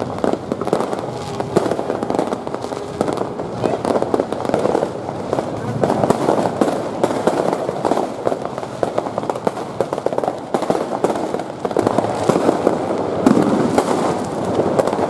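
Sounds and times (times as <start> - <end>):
fireworks popping and crackling: 0.0 - 15.0.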